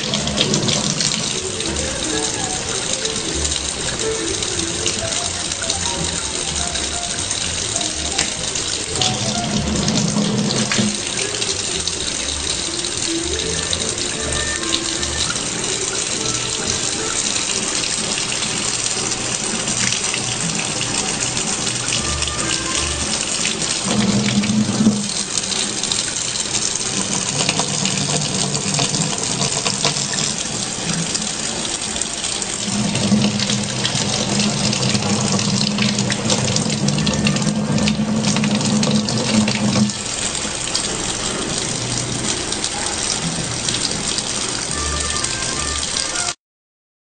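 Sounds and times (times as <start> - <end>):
faucet water running and splashing: 0.0 - 46.4.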